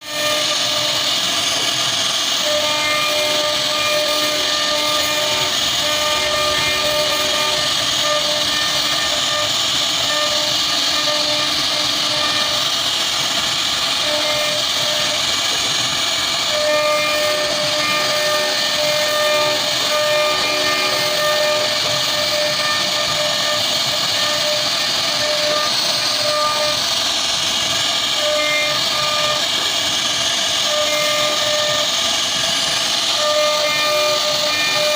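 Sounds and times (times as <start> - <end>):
motor whine: 0.0 - 34.9
wood router spindle noise: 0.0 - 34.9.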